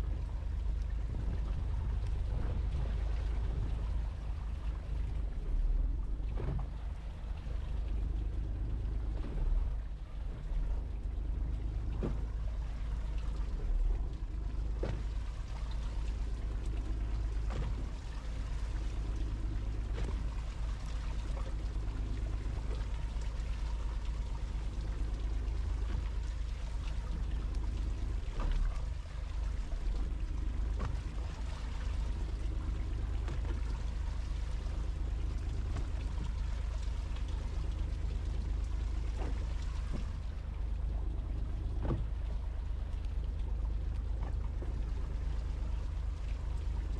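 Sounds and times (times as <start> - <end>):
boat engine running: 0.0 - 46.9.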